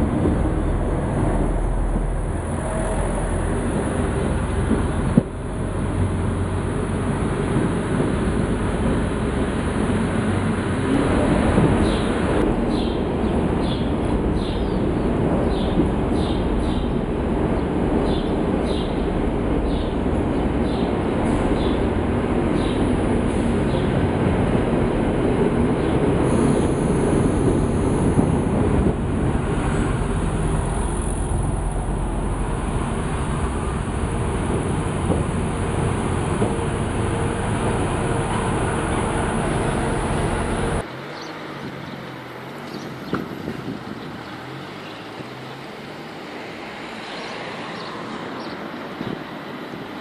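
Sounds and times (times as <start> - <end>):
low engine hum: 0.0 - 47.9
diesel railcar rumbling: 0.0 - 50.0.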